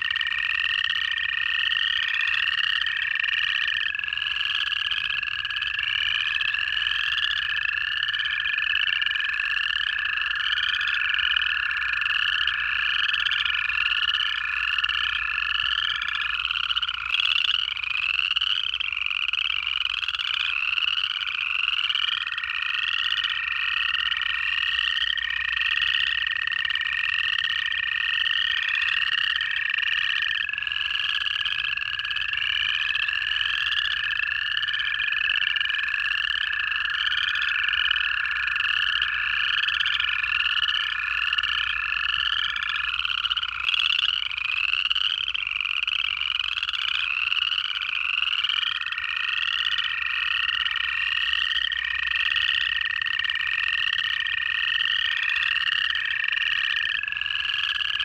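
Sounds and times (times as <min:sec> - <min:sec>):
frogs giving rapid ascending trills: 0:00.0 - 0:58.0
toads giving long steady trills: 0:00.0 - 0:58.0.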